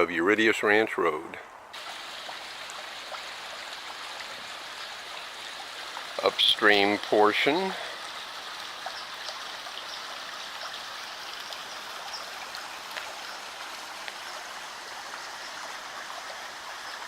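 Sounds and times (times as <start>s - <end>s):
creek water rushing over rocks: 1.7s - 17.0s
small splashes and drips: 1.7s - 17.0s.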